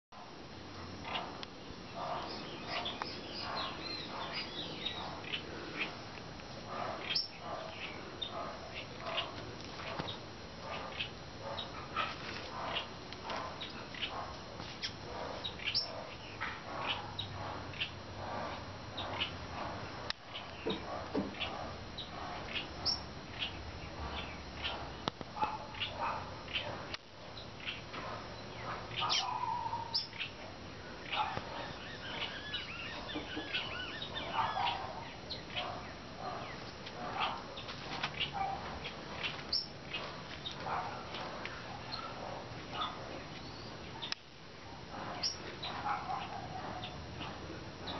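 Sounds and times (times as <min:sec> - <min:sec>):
outdoor background hiss: 0:00.0 - 0:47.9
birds chirping: 0:00.8 - 0:47.9.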